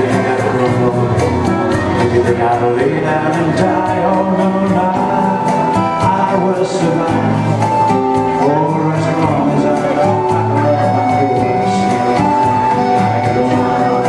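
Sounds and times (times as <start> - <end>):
classical guitar: 0.0 - 14.0
electronic keyboard: 0.0 - 14.0
man singing: 0.0 - 14.0
steady beat: 0.0 - 14.0.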